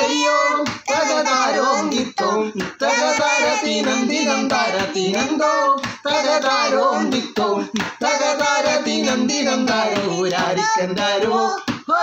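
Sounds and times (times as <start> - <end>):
boy singing: 0.0 - 12.0.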